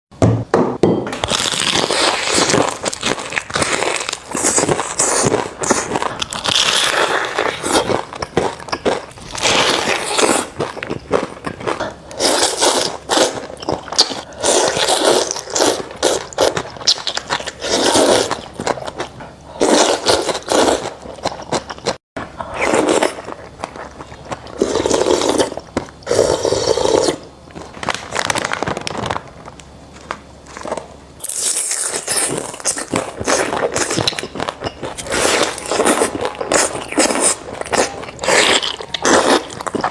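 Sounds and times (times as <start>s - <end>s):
chewing and crunching: 1.2s - 39.9s.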